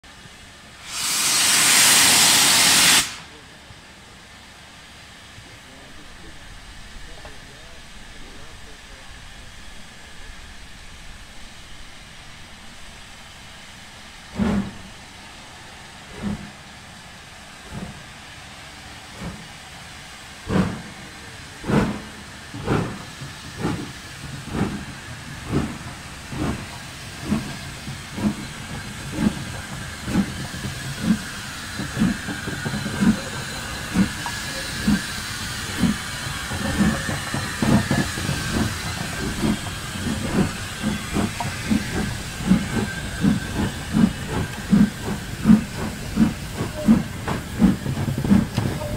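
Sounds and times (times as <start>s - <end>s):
steam locomotive exhaust chuffs: 0.1s - 3.6s, 4.9s - 48.9s
steam hissing: 0.2s - 3.5s, 4.9s - 48.9s.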